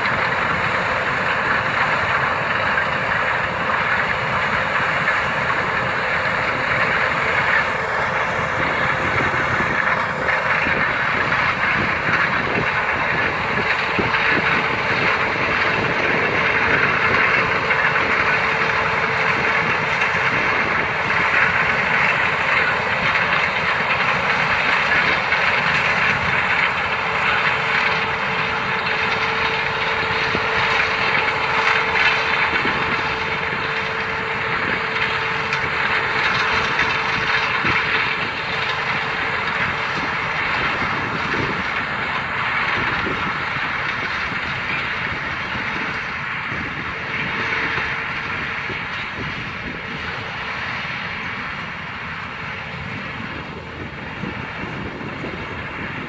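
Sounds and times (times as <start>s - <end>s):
combine harvester drone: 0.0s - 56.0s
faint constant whine: 0.0s - 56.0s.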